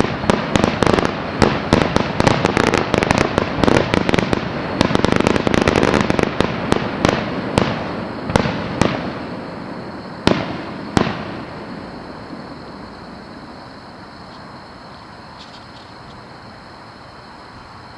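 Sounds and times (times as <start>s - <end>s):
fireworks bangs: 0.0s - 16.3s
fireworks rumble and echo: 0.0s - 17.9s.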